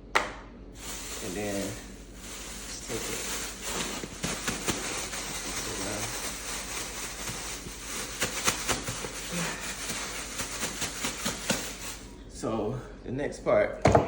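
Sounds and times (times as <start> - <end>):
chicken wings rustling in flour: 0.8 - 12.1.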